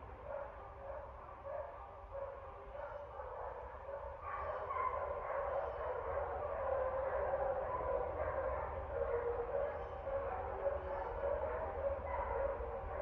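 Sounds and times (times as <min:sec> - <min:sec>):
dogs barking: 0:00.2 - 0:13.0.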